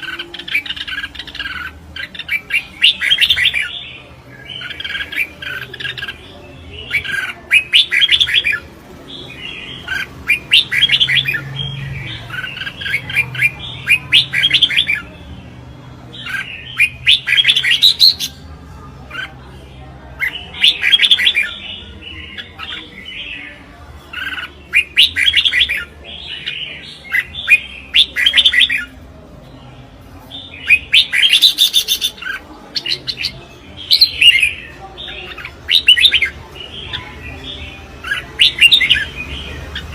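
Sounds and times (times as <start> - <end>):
bulbul singing warbled phrases: 0.0 - 39.9.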